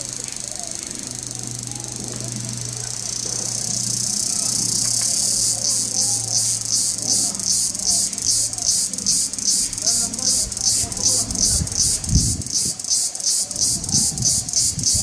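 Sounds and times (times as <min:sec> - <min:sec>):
insects buzzing: 0:00.0 - 0:15.0
steady low hum: 0:00.0 - 0:15.0.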